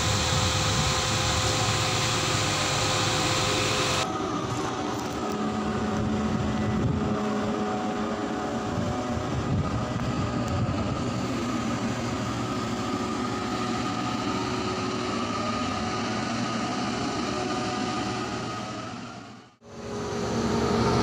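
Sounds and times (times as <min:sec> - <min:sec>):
crane machinery humming with whine: 0:00.0 - 0:21.0.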